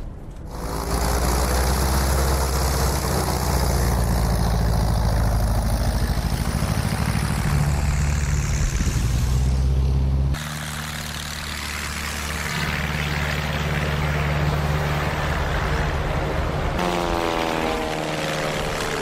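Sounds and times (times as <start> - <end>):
propeller blast rushing: 0.0 - 19.0
propeller plane engine at full power: 0.0 - 19.0.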